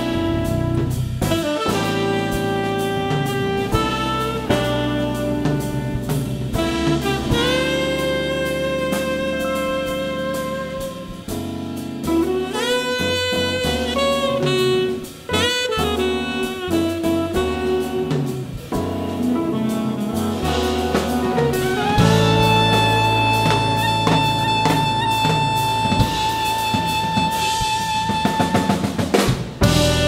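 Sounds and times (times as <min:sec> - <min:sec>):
big band accompaniment: 0:00.0 - 0:30.0
drum kit: 0:00.0 - 0:30.0
tenor saxophone jazz solo: 0:00.0 - 0:30.0.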